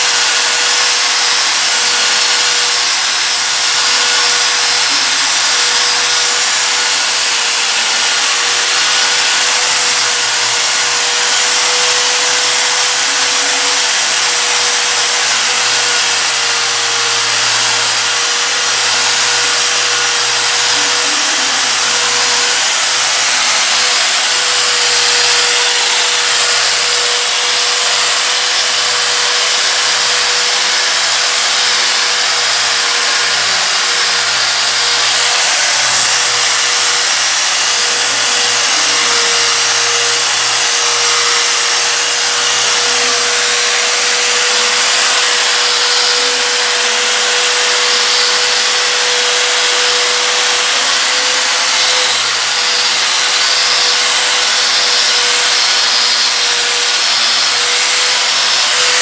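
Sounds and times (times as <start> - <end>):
angle grinder motor whine: 0.0 - 59.0
polishing pad hissing on stone: 0.0 - 59.0.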